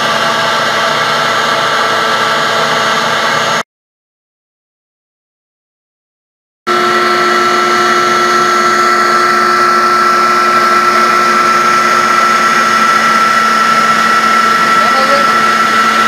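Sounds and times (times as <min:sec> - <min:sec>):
cnc router spindle whine: 0:00.0 - 0:03.6, 0:06.7 - 0:16.0.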